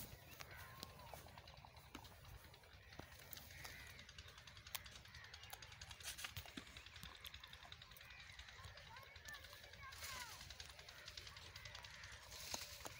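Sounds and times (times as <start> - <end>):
faint outdoor ambience: 0.0 - 12.9.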